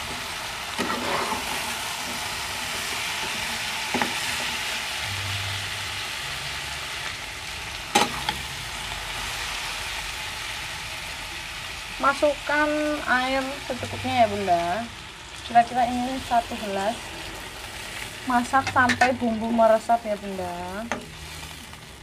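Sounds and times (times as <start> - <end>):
meat sizzling in a wok: 0.0 - 22.0.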